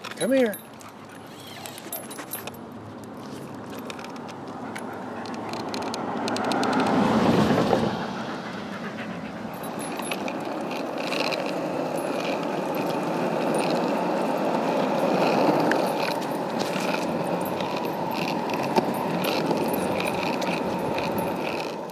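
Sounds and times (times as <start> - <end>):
skateboard wheels rolling on asphalt: 2.5 - 21.9.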